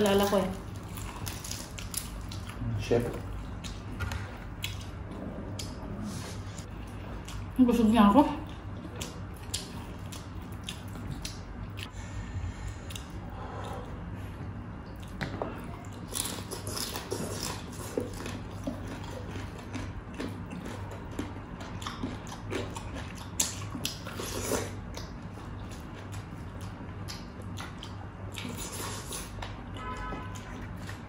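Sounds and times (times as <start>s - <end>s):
chewing crispy food: 0.0s - 7.6s, 8.2s - 11.9s, 14.8s - 31.0s
steady low hum: 0.0s - 31.0s.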